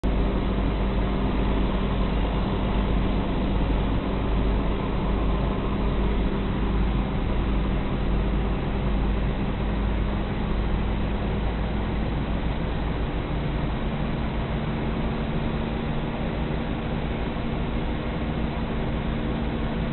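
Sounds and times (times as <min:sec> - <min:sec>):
road and wind noise: 0:00.0 - 0:19.9
vehicle engine drone: 0:00.0 - 0:19.9.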